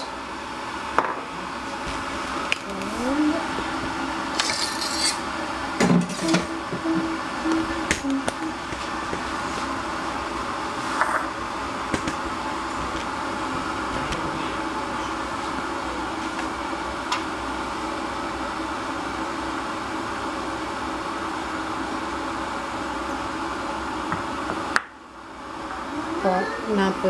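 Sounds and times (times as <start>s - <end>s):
fan whirring with low hum: 0.0s - 27.0s.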